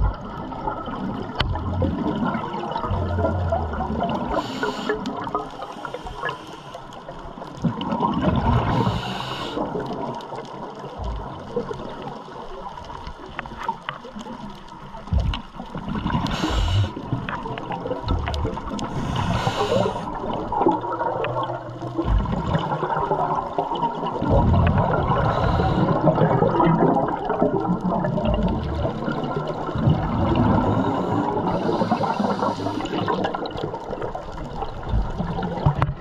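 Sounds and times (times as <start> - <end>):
exhaled bubble bursts: 0.0 - 6.4, 7.6 - 10.2, 15.8 - 36.0
underwater bubbles gurgling: 0.0 - 36.0.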